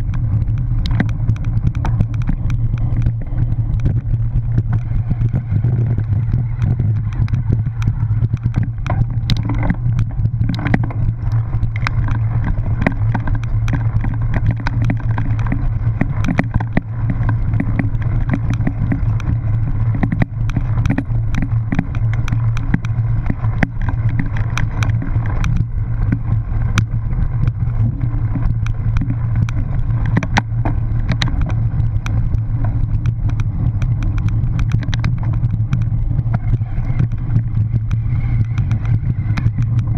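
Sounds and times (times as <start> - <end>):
bike clicks and rattles: 0.0 - 39.9
wind rumble on microphone: 0.0 - 39.9.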